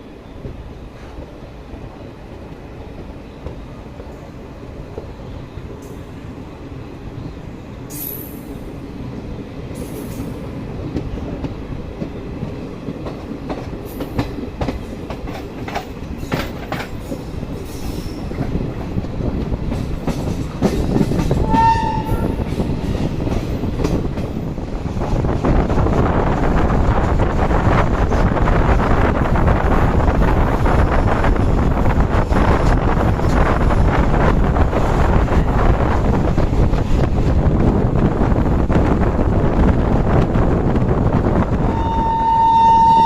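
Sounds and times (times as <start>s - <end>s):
train wheels rumbling and clicking: 0.0s - 43.0s.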